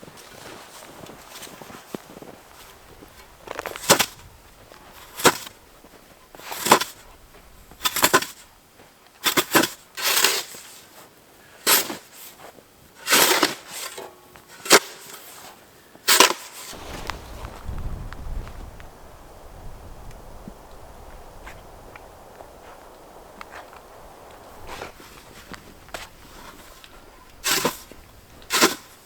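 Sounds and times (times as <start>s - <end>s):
snow scraping strokes: 0.0s - 8.5s, 9.3s - 29.0s.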